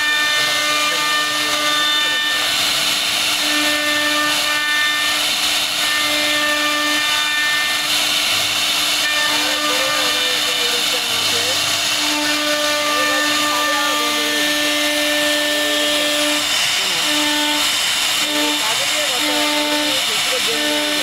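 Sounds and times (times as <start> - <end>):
router bit cutting wood: 0.0 - 21.0.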